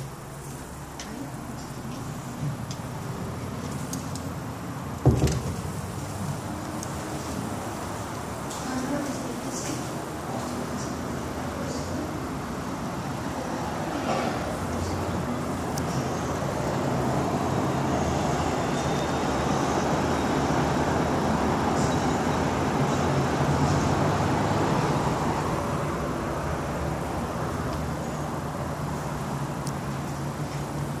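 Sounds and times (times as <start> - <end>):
highway traffic noise: 0.0 - 31.0.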